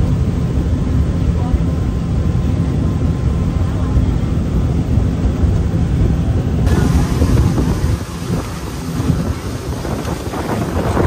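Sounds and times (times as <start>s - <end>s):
engine droning: 0.0s - 11.0s
wind buffeting: 0.0s - 11.0s.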